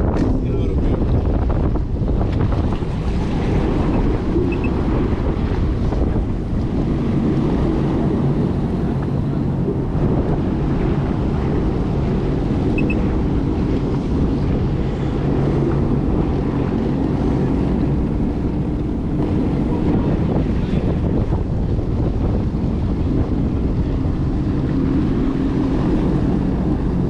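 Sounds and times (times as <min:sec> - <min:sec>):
jet ski engines running: 0:00.0 - 0:27.0
wind buffeting microphone: 0:00.0 - 0:27.0.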